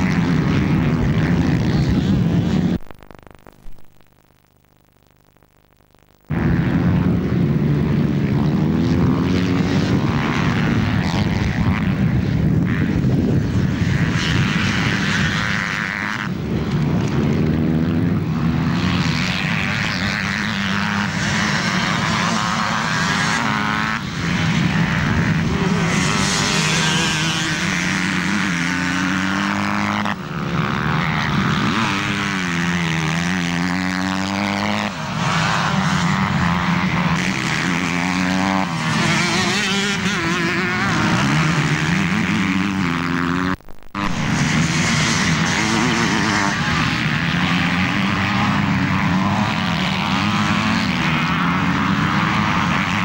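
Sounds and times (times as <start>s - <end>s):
motorbike engines revving: 0.0s - 3.0s, 6.3s - 53.0s.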